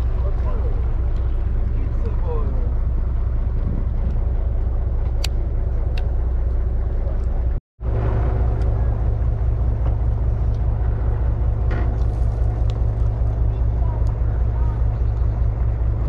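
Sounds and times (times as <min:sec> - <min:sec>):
boat engine rumbling: 0:00.0 - 0:16.0
water wash against hull: 0:00.0 - 0:16.0.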